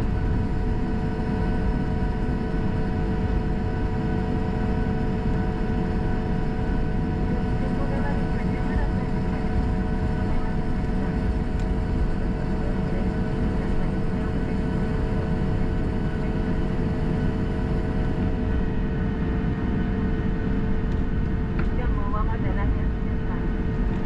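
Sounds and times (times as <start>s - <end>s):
idling jet engines rumble: 0.0s - 24.0s
steady humming tones: 0.0s - 24.0s.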